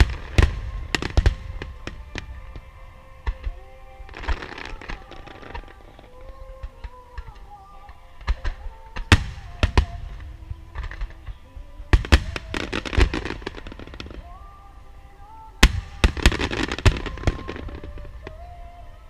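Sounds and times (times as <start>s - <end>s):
fireworks bursting with crackle: 0.0s - 19.0s
music: 0.0s - 19.0s.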